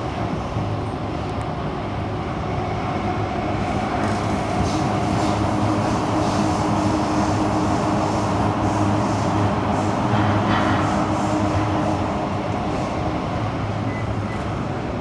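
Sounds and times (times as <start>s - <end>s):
train motor hum: 0.0s - 15.0s
wheel and track rumble: 0.0s - 15.0s.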